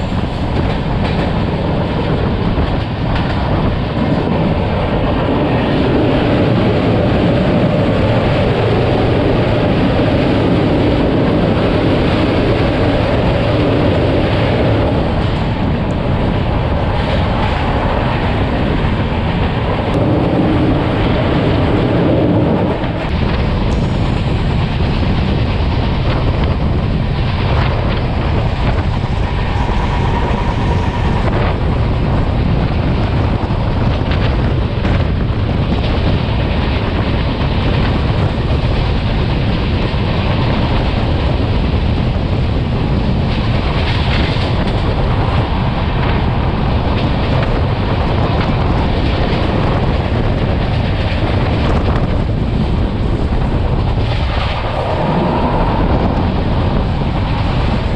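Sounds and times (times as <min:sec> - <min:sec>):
train wheels rumbling on rails: 0:00.0 - 0:57.9
wind buffeting microphone: 0:00.0 - 0:57.9.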